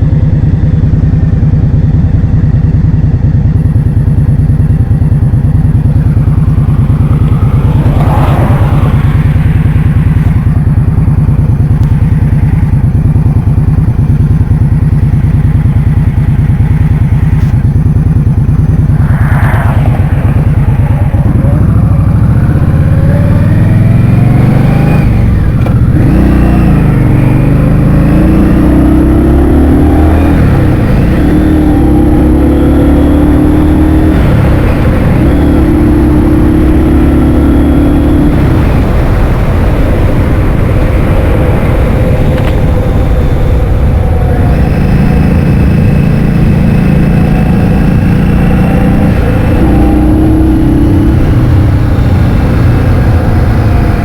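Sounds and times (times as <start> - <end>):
scooter engine revving: 3.6 - 54.0.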